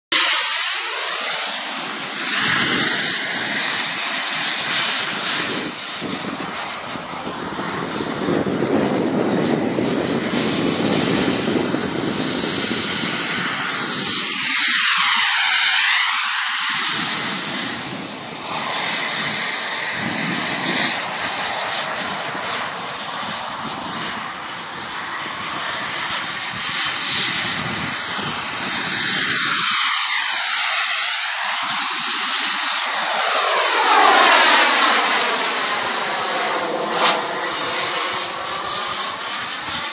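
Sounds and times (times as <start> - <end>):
fighter jet engines roaring: 0.1 - 39.9
jet whooshing past: 0.1 - 39.9.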